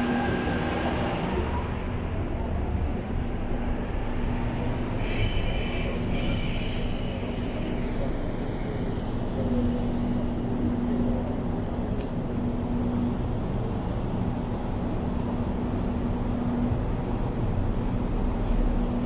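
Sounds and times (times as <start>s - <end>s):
metro train rumble: 0.0s - 19.0s.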